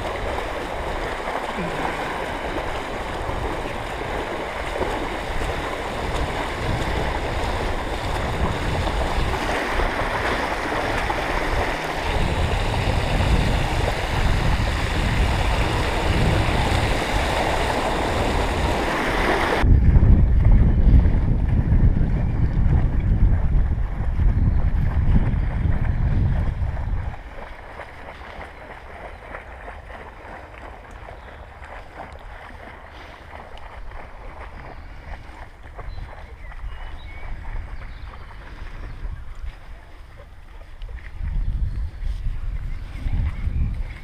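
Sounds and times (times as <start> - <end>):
bicycle splashing through water: 0.0 - 19.7, 22.6 - 39.2
wind on microphone: 0.0 - 30.4, 31.1 - 44.0.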